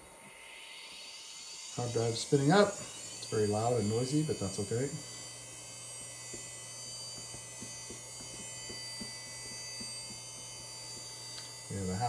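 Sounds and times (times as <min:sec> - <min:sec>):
hard drive whirring: 0:00.0 - 0:12.0
hard drive ticking: 0:00.2 - 0:12.0.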